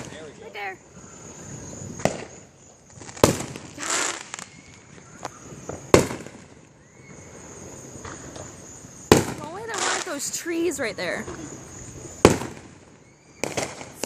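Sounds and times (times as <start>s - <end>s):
faint fireworks pops: 0.0s - 10.4s, 11.2s - 14.0s
crackling hiss: 0.0s - 14.0s
fireworks bangs: 0.0s - 14.0s.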